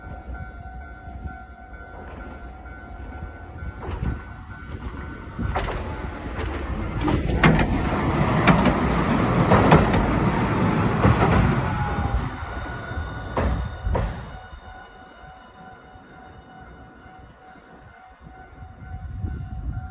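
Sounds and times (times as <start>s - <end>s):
level-crossing alarm ringing: 0.0s - 19.9s
streetcar rumble: 0.0s - 19.9s.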